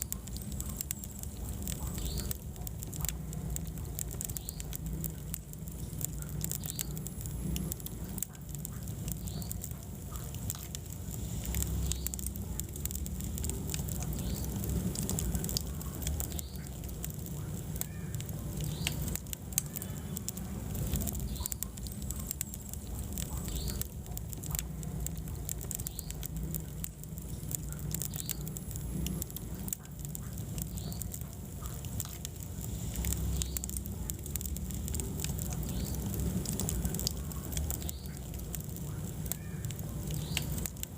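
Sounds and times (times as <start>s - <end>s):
fire flames rumbling: 0.0s - 40.9s
wood fire crackling and popping: 0.0s - 40.9s.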